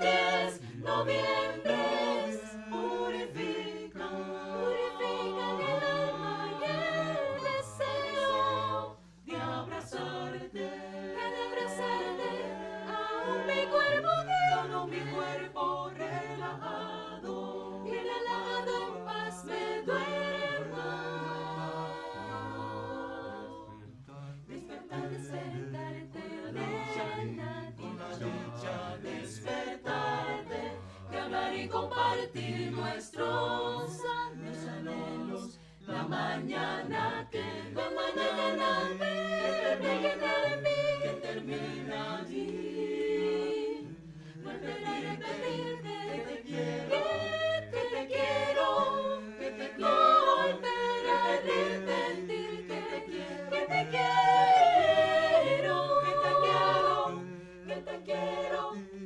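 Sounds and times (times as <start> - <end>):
choir singing a cappella: 0.0 - 59.0.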